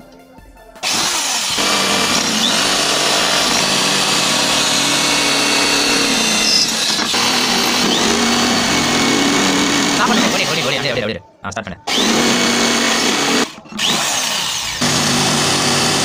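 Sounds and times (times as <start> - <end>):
electric drill drilling: 0.8 - 10.9, 11.9 - 16.0.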